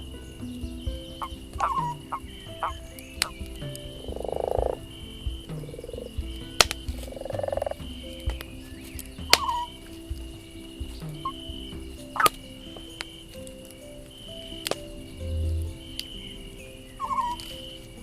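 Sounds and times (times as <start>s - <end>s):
campfire crackles: 0.0s - 18.0s
frogs croaking: 0.0s - 18.0s.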